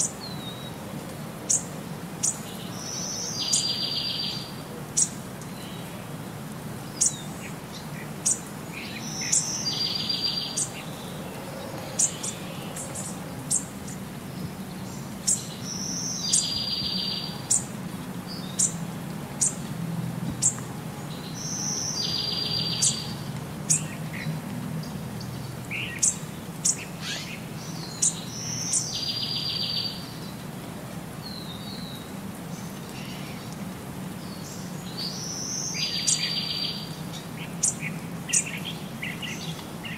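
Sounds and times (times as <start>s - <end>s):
birds chirping: 1.5s - 19.7s, 20.3s - 30.4s, 31.2s - 39.9s.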